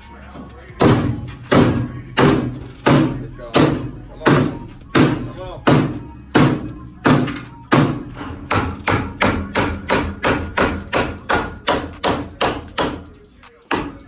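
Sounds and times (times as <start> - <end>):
hammer striking sheet metal: 0.8 - 13.1, 13.7 - 14.0.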